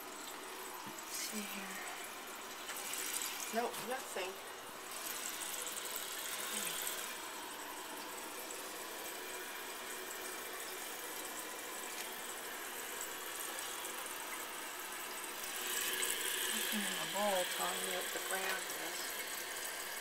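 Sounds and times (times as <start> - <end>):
toilet tank refilling: 0.0 - 20.0.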